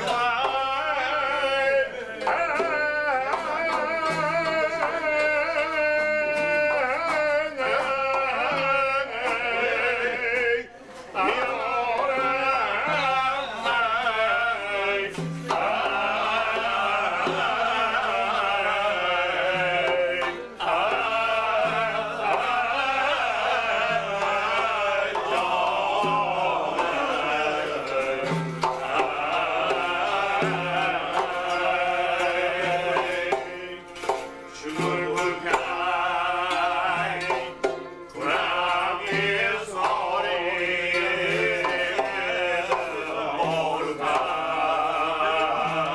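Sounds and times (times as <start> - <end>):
man singing: 0.0 - 45.9
plucked lutes playing: 1.8 - 45.9.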